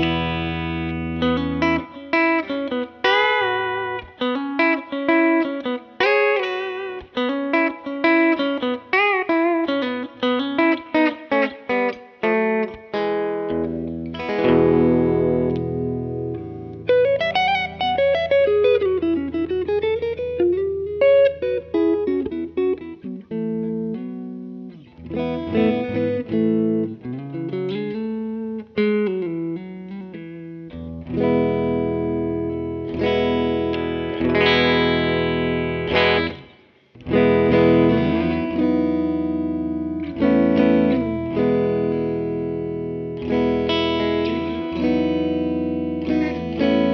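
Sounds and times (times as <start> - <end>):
electric guitar chords: 0.0 - 46.9
electric guitar lead with bends: 0.0 - 46.9.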